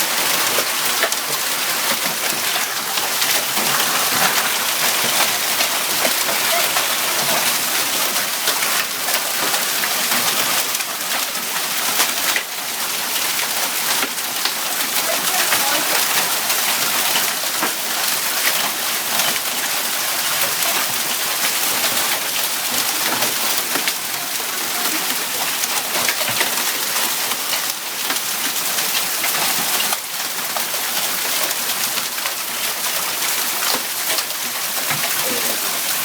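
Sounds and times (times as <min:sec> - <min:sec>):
hail and rain pelting down: 0:00.0 - 0:36.0.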